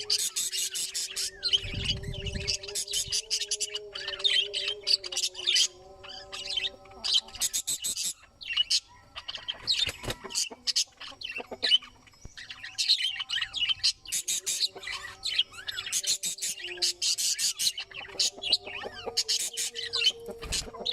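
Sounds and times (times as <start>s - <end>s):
budgerigars chattering: 0.0s - 20.9s.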